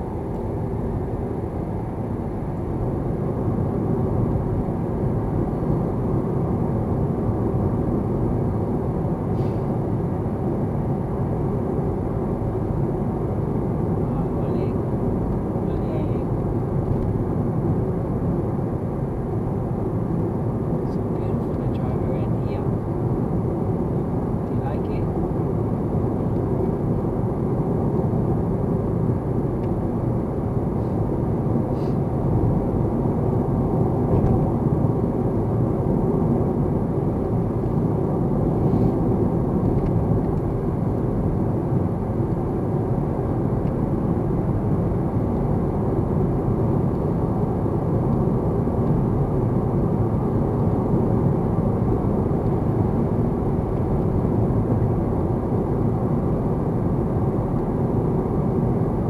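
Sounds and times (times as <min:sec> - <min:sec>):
car engine: 0:00.0 - 0:59.0.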